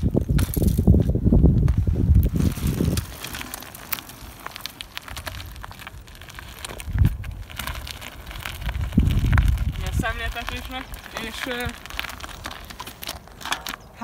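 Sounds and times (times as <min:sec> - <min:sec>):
gravel crunching under bike tyres: 0:00.0 - 0:14.0.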